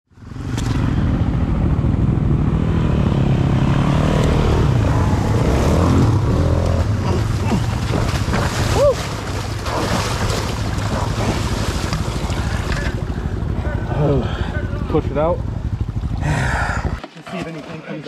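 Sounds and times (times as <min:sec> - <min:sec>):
dirt bike engines running: 0:00.2 - 0:18.0.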